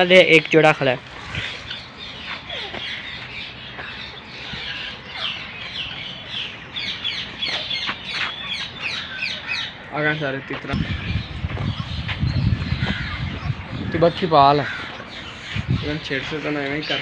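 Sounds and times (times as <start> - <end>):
many small birds chirping: 0.0 - 17.0.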